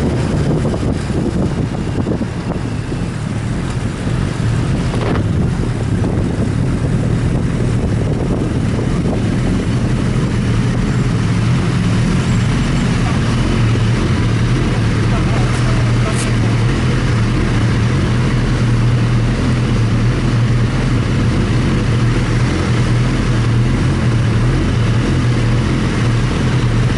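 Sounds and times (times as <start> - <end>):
low engine drone: 0.0 - 26.9
wind noise: 0.0 - 26.9.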